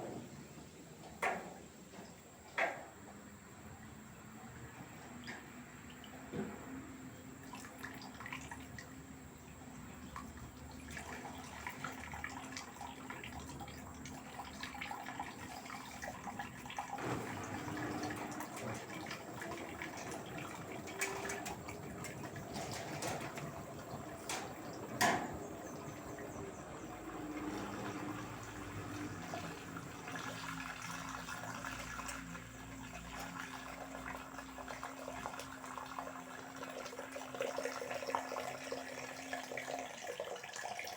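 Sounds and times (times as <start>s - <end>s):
washing machine hum: 0.0s - 40.9s
water sloshing in washing machine: 0.0s - 40.9s.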